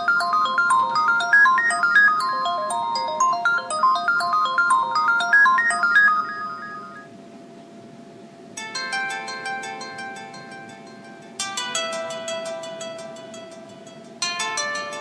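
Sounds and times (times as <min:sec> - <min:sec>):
fast ringtone melody: 0:00.0 - 0:07.1, 0:08.6 - 0:15.0
ringtone of ringing notes: 0:00.0 - 0:07.1, 0:08.6 - 0:15.0.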